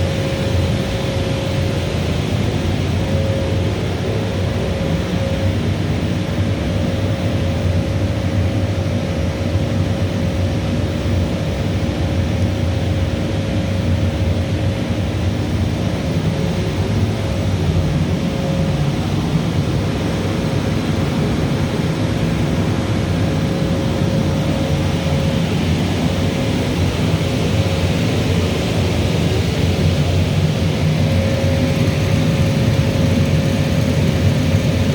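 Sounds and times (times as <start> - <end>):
low rumble of boiler plant: 0.0 - 34.9.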